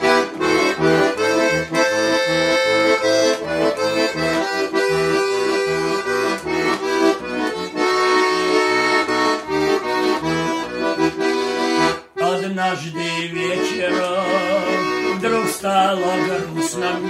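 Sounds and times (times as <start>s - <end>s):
accordion playing: 0.0s - 17.0s.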